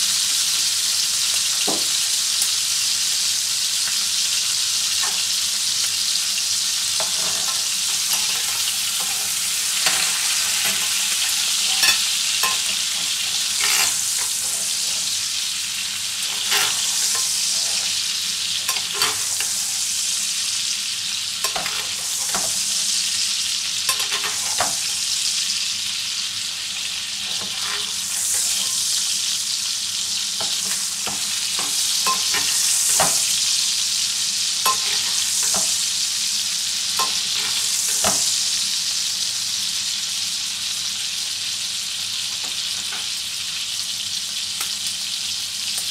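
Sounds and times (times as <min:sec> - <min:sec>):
steak sizzling in butter: 0:00.0 - 0:45.9.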